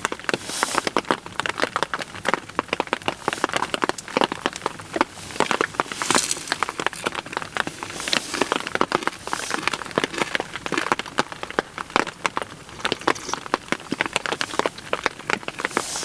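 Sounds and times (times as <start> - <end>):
heavy rain tapping: 0.0 - 16.0.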